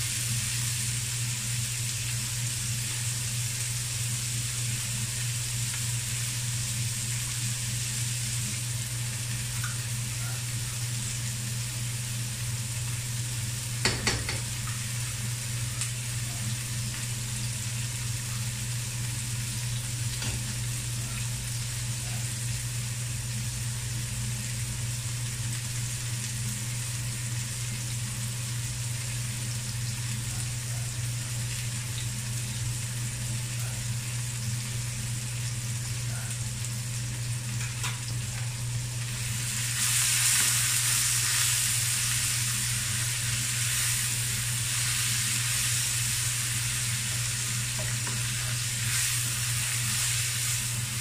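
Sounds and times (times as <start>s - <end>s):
steady low hum: 0.0s - 51.0s
vegetables sizzling in oil: 0.0s - 51.0s.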